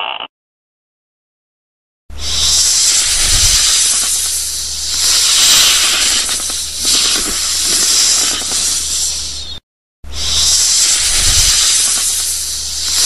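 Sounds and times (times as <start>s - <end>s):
snake hissing: 2.1s - 13.0s.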